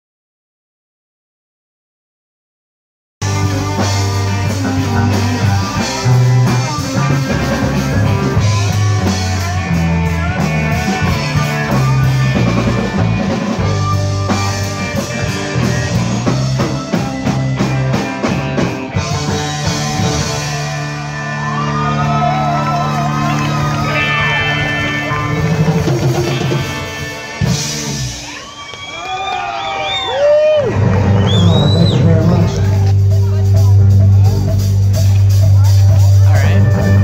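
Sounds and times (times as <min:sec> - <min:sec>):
rock music with electric guitar: 0:03.2 - 0:28.8, 0:30.5 - 0:37.0.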